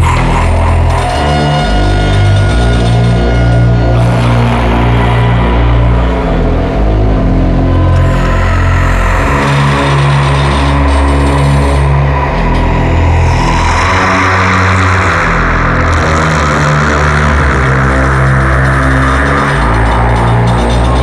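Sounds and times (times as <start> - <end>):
loud rushing noise: 0.0 - 21.0.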